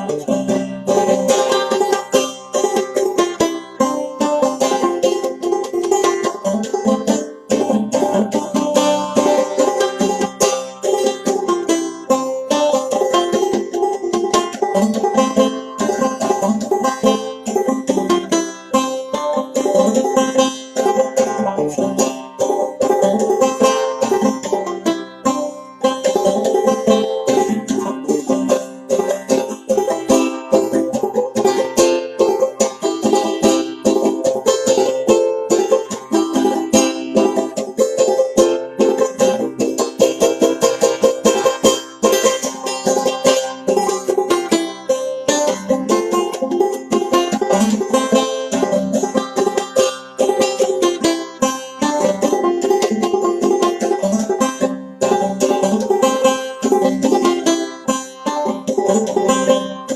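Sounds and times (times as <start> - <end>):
banjo picking: 0.0 - 59.9.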